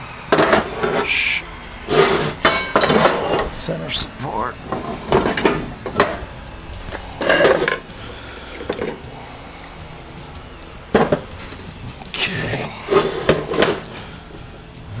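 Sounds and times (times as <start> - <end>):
metal parts clanking: 0.0 - 15.0.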